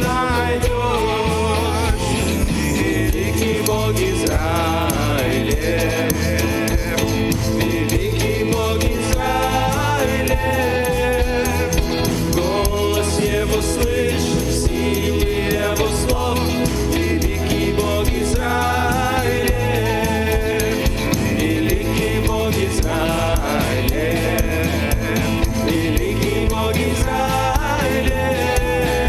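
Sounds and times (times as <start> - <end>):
live band playing: 0.0 - 29.0
woman and man singing: 0.0 - 29.0.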